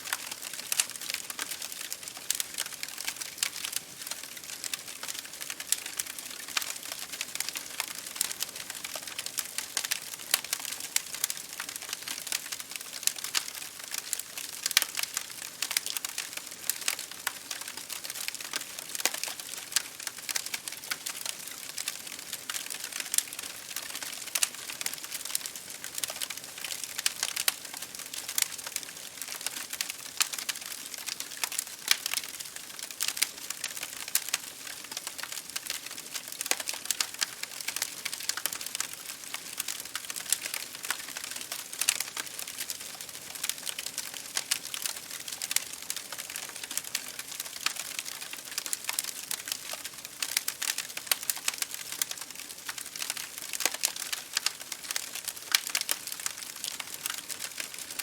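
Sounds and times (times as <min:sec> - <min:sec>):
rain against a window: 0:00.0 - 0:58.0
wood fire crackling and popping: 0:00.0 - 0:58.0.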